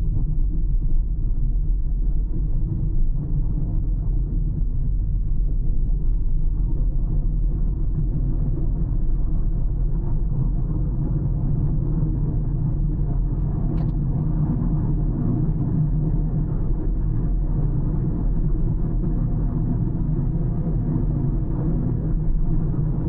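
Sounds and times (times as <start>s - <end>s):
car tyres and engine rumble: 0.1s - 23.0s.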